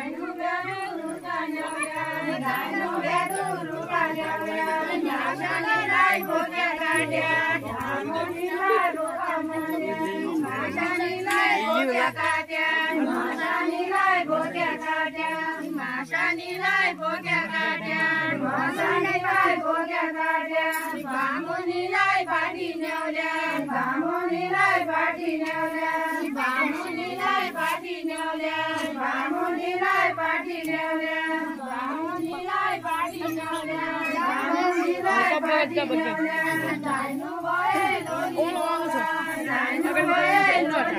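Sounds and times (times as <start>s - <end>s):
women singing folk song: 0.0s - 40.9s.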